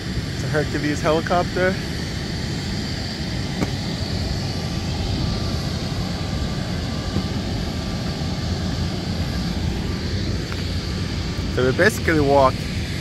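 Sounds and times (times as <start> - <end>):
high turbine whine: 0.0 - 13.0
jet turbine rumble: 0.0 - 13.0.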